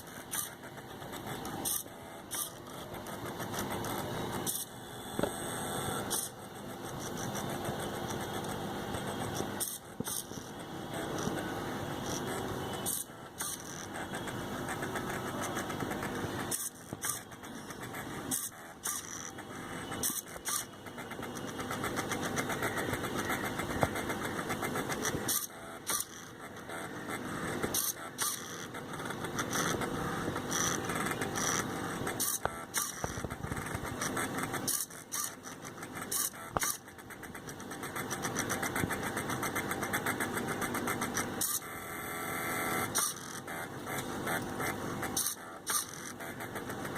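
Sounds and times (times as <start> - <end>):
machine clicks: 0.0 - 46.9
stepper motors buzzing whir: 0.0 - 46.9.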